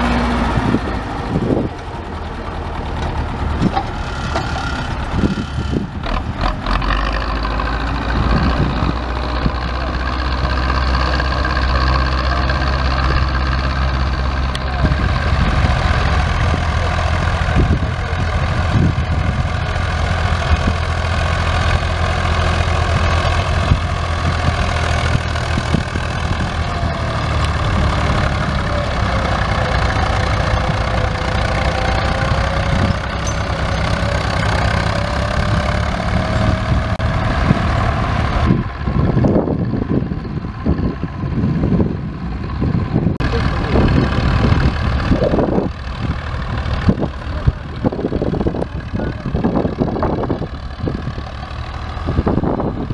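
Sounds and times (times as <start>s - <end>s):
tractor diesel engines running: 0.0s - 52.9s.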